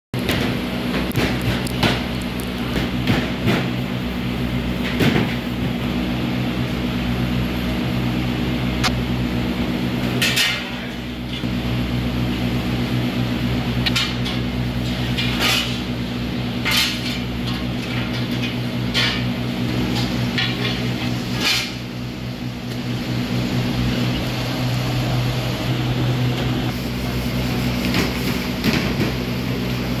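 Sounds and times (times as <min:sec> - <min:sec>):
low electrical hum: 0:00.2 - 0:30.0.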